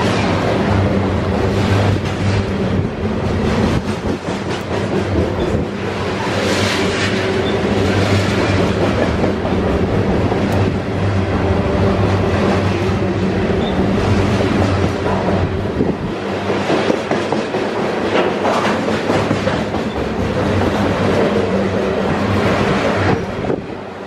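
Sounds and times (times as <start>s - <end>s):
clickety-clack over rail joints: 0.0s - 24.0s
freight train rolling past: 0.0s - 24.0s.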